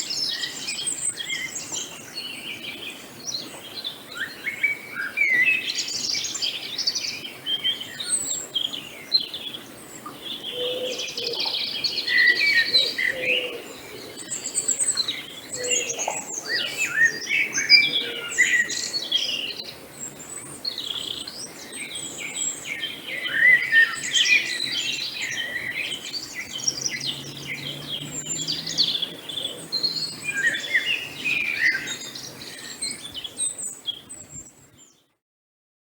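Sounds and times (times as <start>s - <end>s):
songbirds chirping and singing: 0.0s - 35.1s.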